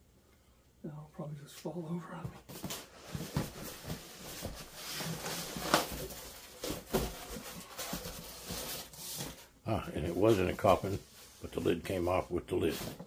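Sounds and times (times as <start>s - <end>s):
cardboard rustling: 2.3s - 13.0s.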